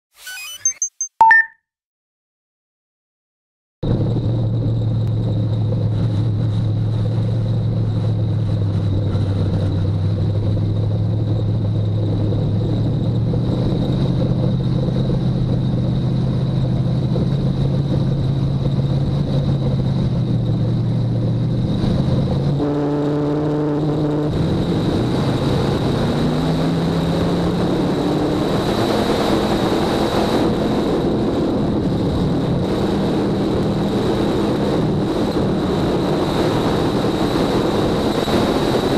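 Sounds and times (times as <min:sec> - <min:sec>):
race car engine: 0:03.9 - 0:38.9.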